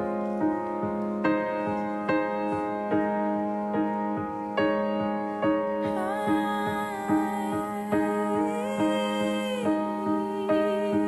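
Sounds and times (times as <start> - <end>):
keyboard playing piano chords: 0.0 - 11.0.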